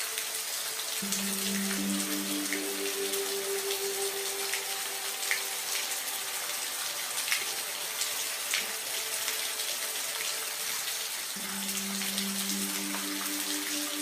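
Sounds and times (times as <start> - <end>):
raindrops ticking: 0.0 - 14.0
soft low music tones: 0.0 - 14.0
steady rain falling: 0.0 - 14.0.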